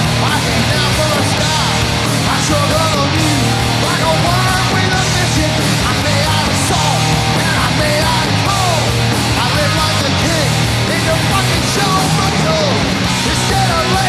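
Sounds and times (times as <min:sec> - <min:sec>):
hard rock band playing: 0:00.0 - 0:14.0.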